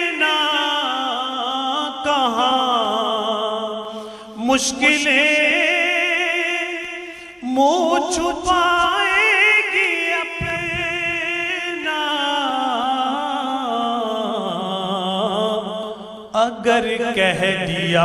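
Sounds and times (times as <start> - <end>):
man singing through loudspeakers: 0.0 - 18.0.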